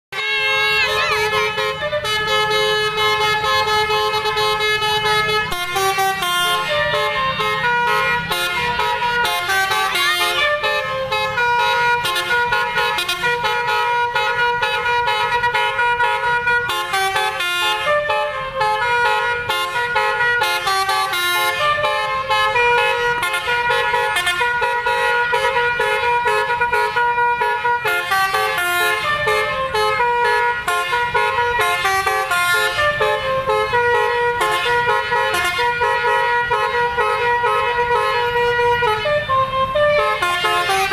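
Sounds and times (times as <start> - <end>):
musical air horn playing a tune: 0.1 - 40.9.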